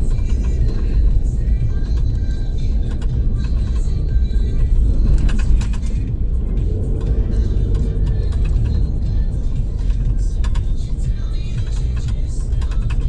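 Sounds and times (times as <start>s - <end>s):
car road and engine rumble: 0.0s - 13.0s
music playing: 0.0s - 13.0s.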